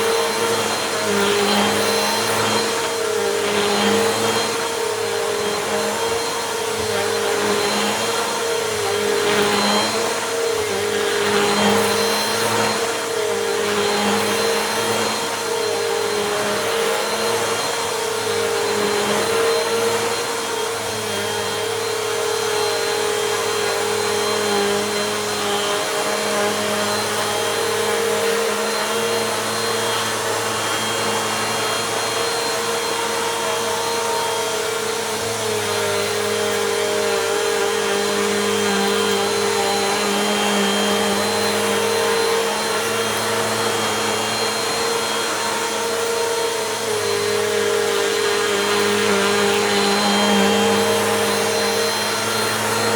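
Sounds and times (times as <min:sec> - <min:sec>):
vacuum cleaner running: 0:00.0 - 0:52.9
vacuum sucking up gritty dirt: 0:00.0 - 0:52.9.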